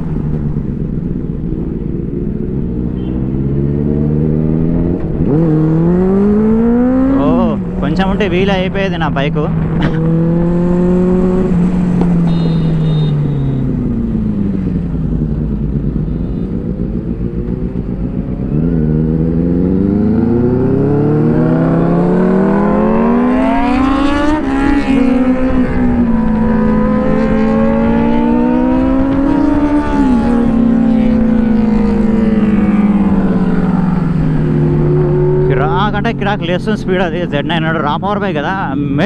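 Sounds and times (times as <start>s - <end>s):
motorcycle engine revving: 0.0s - 8.4s, 9.5s - 39.0s.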